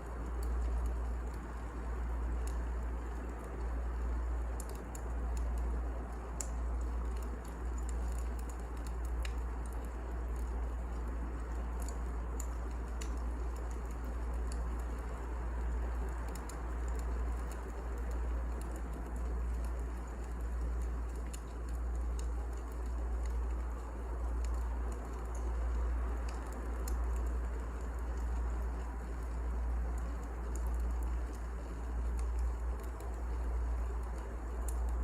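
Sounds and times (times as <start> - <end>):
wood fire burning: 0.0 - 35.0.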